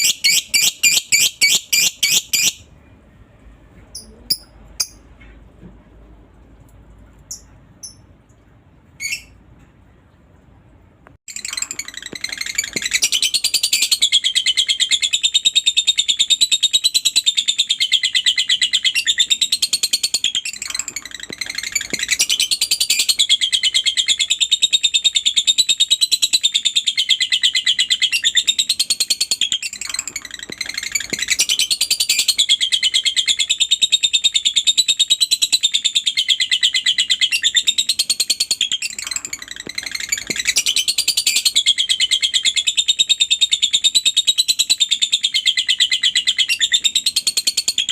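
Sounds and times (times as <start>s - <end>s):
lovebird high-pitched chattering trills: 0.0s - 2.6s, 11.3s - 47.9s.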